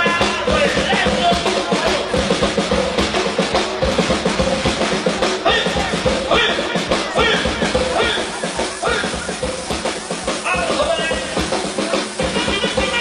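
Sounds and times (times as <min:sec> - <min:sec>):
band music: 0:00.0 - 0:13.0
drum kit rapid strokes: 0:00.0 - 0:13.0.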